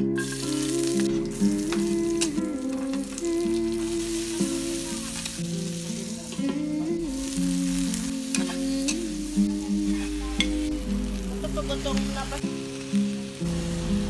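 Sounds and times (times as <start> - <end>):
soft background music: 0.0 - 14.0
vegetables sizzling in oil: 0.0 - 14.0.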